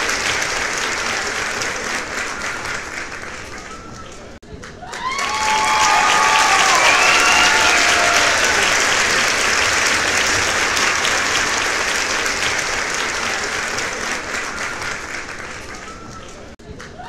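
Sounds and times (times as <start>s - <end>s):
crowd applause: 0.0s - 16.6s.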